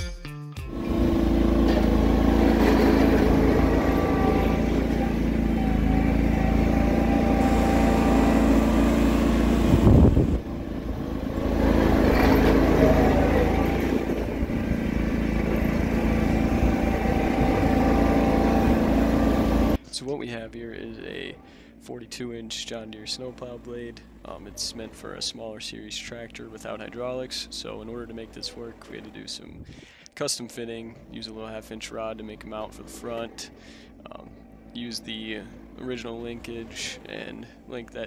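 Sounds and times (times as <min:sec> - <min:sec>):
lawn tractor engine running: 0:00.7 - 0:29.4, 0:30.8 - 0:38.0.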